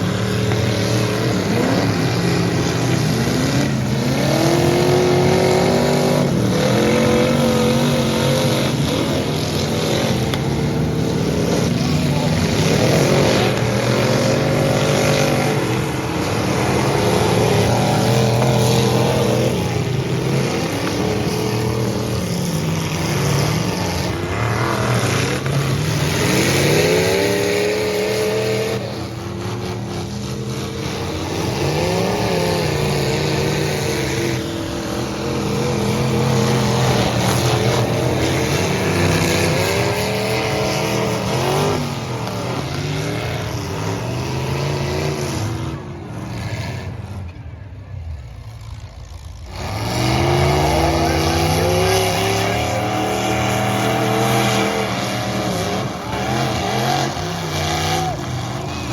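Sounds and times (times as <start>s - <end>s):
truck engines revving: 0.0s - 58.9s.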